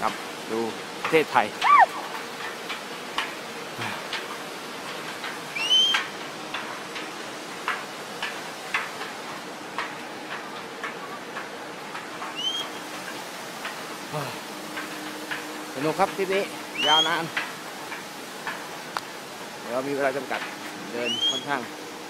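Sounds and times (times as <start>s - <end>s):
steady hiss: 0.0s - 22.0s
hooves on a steel-mesh bridge deck: 0.2s - 22.0s
footsteps on a steel-mesh deck: 1.0s - 19.6s.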